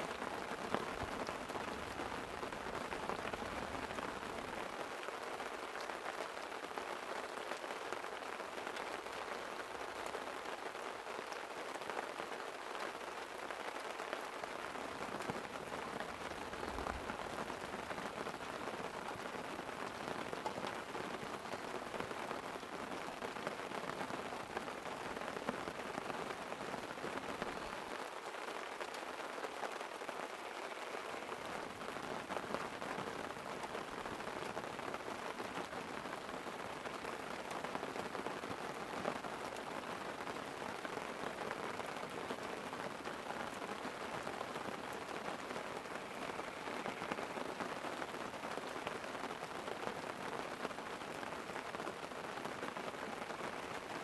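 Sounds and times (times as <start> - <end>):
light rain on a tent: 0.0 - 54.0.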